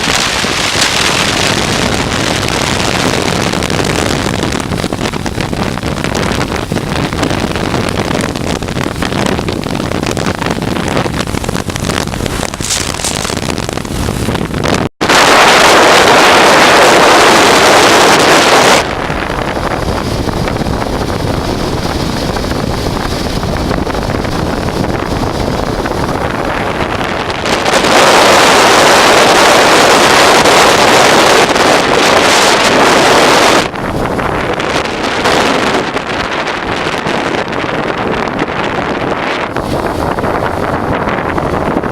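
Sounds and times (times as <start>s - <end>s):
motorcycle engine: 0.0s - 41.9s
road noise: 0.0s - 41.9s
wind rushing over microphone: 0.0s - 41.9s.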